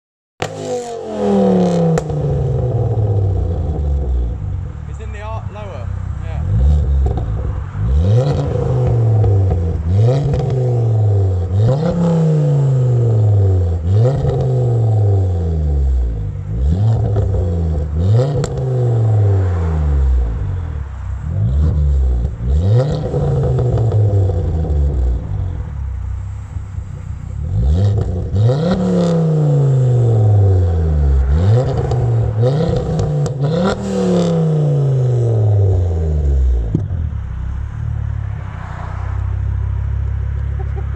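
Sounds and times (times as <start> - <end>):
car engine revving: 0.4 - 40.9.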